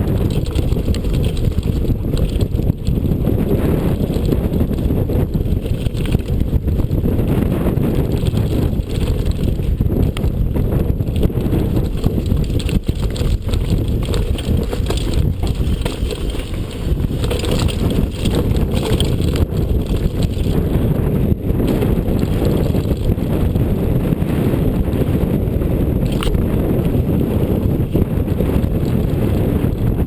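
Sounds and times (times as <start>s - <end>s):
tyres on loose gravel: 0.0s - 24.7s, 25.8s - 30.0s
bike knocking and rattling: 0.0s - 30.0s
wind rumble on microphone: 0.0s - 30.0s.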